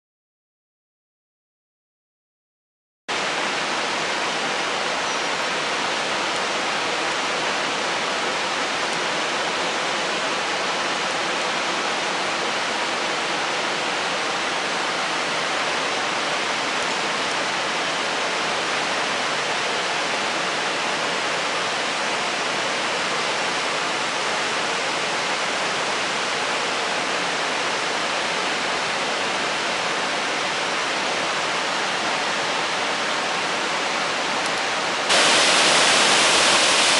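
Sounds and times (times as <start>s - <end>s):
waterfall rushing: 3.1s - 36.9s.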